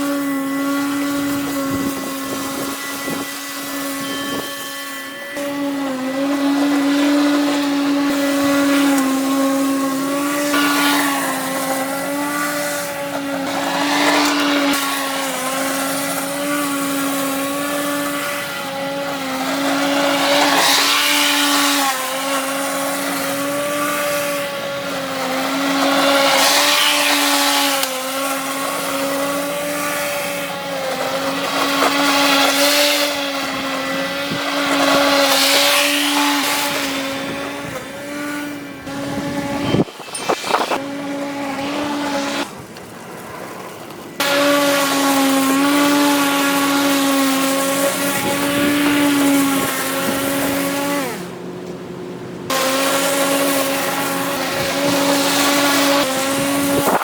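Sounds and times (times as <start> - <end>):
lawn mower running: 0.0 - 57.0.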